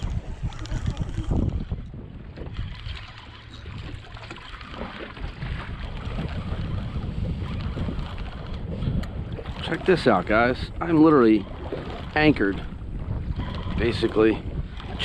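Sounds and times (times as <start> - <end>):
water lapping at boat hull: 0.0 - 15.0
wind buffeting microphone: 0.0 - 15.0.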